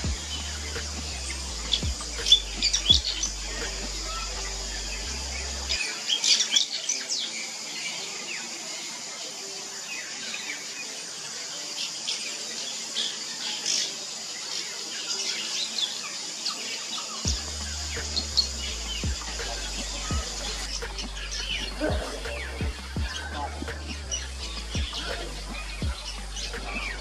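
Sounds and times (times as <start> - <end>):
birds twittering: 0.0 - 27.0
steady high hiss: 0.0 - 27.0.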